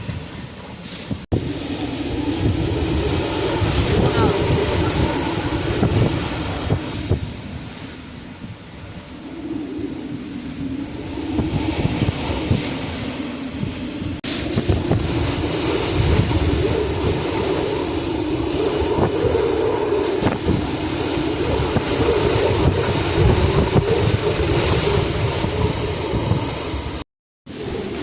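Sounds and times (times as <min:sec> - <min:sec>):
howling hurricane wind: 0:00.0 - 0:28.0
wind buffeting microphone: 0:00.0 - 0:28.0.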